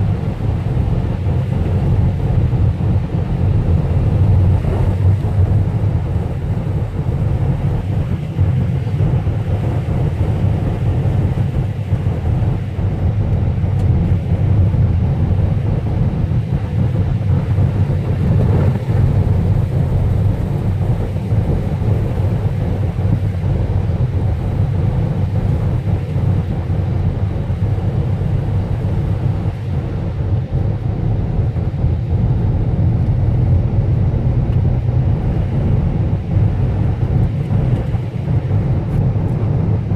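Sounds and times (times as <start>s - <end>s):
car driving on wet snowy road: 0.0s - 39.9s.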